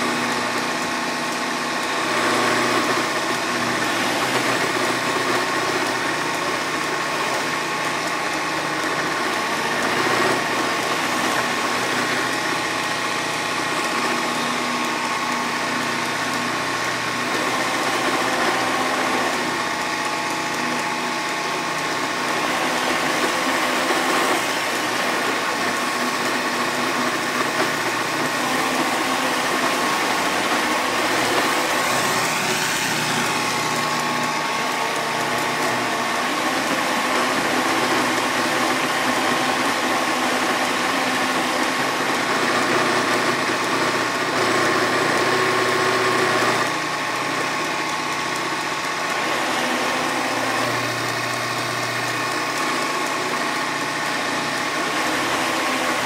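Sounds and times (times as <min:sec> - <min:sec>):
robot vacuum motor whine: 0:00.0 - 0:56.0.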